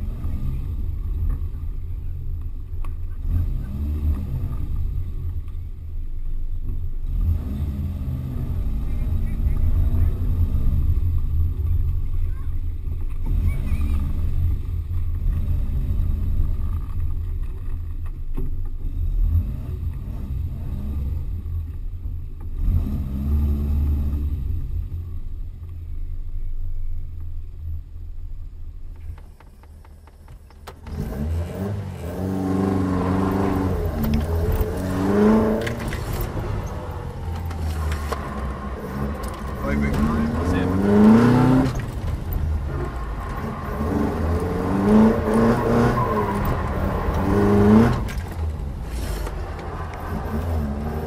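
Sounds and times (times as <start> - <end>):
car engine revving: 0.0 - 25.5, 29.8 - 51.0.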